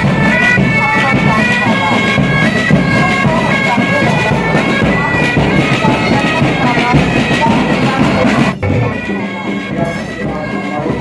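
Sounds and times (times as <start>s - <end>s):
bagpipes playing a marching tune: 0.0s - 11.0s
faint voices: 0.0s - 11.0s.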